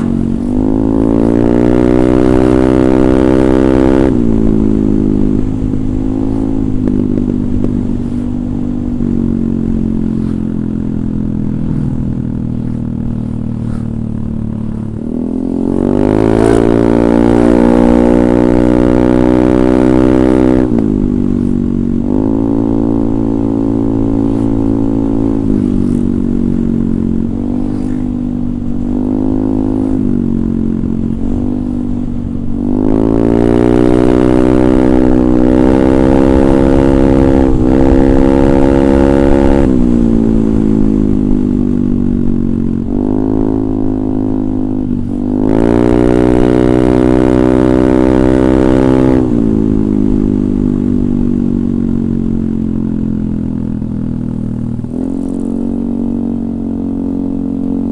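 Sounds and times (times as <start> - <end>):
scooter engine revving: 0.0 - 52.6, 54.6 - 57.9.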